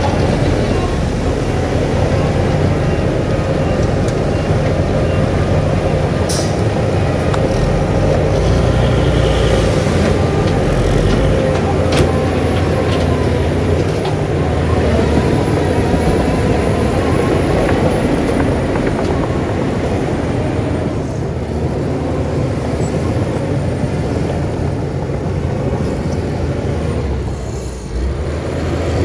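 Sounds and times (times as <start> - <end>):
heavy machinery diesel engine: 0.0 - 29.0.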